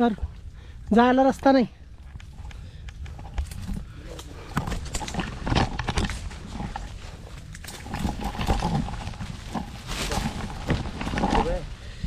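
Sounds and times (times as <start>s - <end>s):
twigs and leaves rustling and snapping: 0.9s - 11.9s
branches cracking and knocking: 2.0s - 11.8s.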